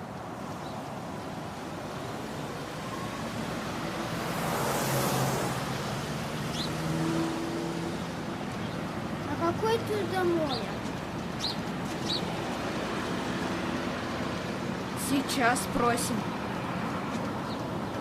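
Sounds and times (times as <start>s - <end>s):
vehicle passing by: 2.0s - 18.0s.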